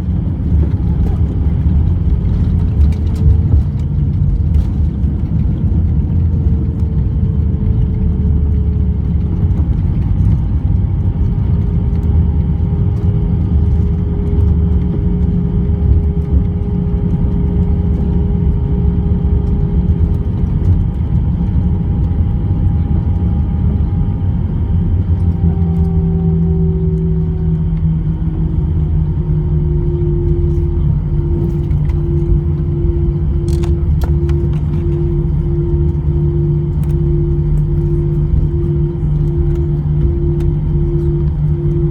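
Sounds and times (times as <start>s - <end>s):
jet engines running: 0.0s - 41.9s
whine tones dropping in pitch: 6.6s - 41.9s.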